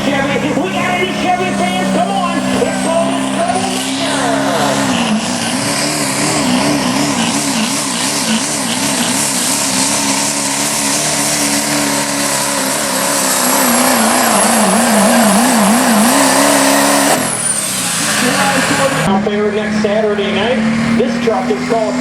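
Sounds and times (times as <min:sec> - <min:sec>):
diesel engine at full throttle: 0:00.0 - 0:22.0.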